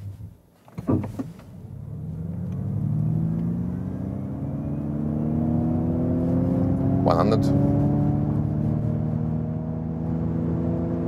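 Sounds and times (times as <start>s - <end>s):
tyre and road noise: 0.8s - 11.0s
electric motor hum rising in pitch: 1.7s - 11.0s.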